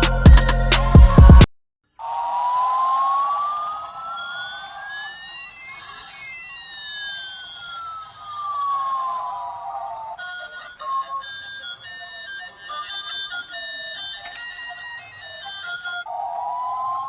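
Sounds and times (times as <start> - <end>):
siren-like electronic tone sweeping: 2.0 - 17.0.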